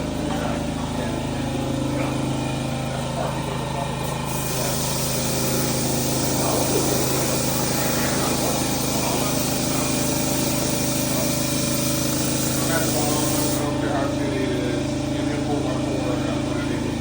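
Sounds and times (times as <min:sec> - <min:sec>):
small motor droning: 0:00.0 - 0:17.0.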